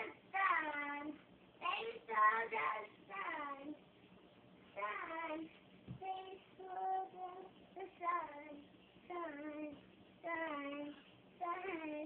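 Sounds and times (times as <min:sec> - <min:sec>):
girl singing: 0:00.0 - 0:03.8, 0:04.8 - 0:12.0.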